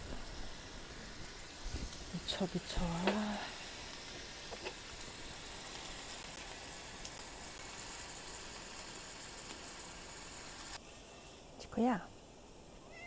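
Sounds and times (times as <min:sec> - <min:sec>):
fire crackling: 0:00.0 - 0:12.8
meat sizzling on a grill: 0:00.0 - 0:13.0.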